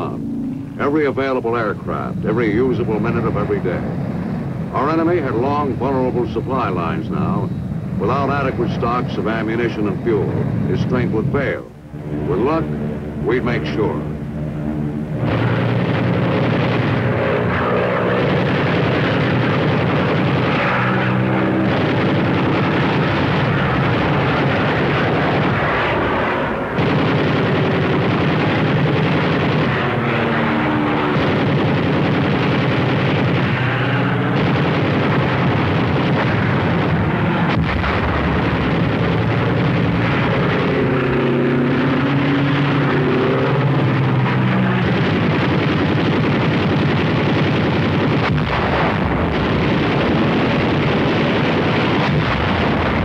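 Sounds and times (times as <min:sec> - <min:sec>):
propeller plane engines droning: 0:00.0 - 0:53.0.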